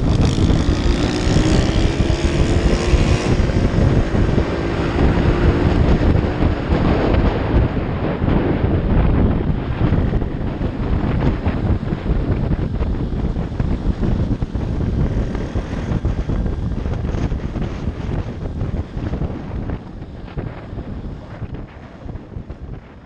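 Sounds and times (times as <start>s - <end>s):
small motorcycle engine running: 0.0s - 22.7s
wind buffeting microphone: 0.0s - 23.0s.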